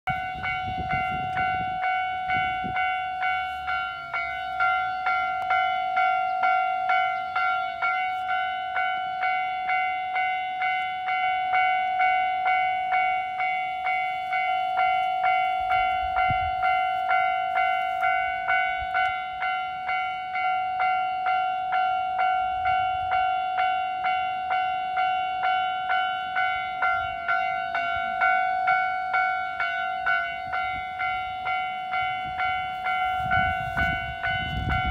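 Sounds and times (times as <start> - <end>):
level crossing warning bell: 0.1 - 34.9.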